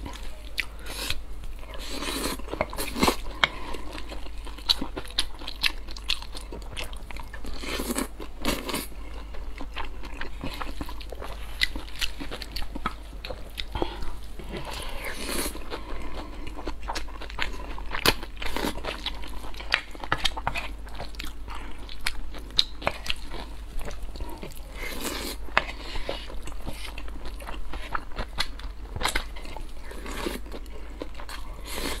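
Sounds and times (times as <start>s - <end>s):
person chewing noodles: 0.0s - 32.0s.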